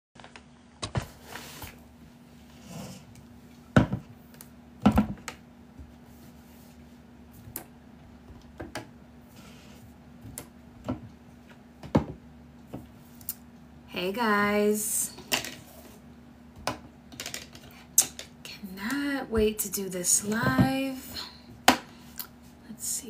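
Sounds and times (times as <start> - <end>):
steady low hum: 0.3 - 23.0.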